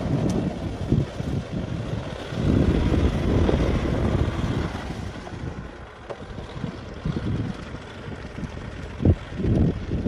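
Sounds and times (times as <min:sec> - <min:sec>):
tractor engine running: 0:00.0 - 0:10.0
wind buffeting microphone: 0:00.0 - 0:10.0.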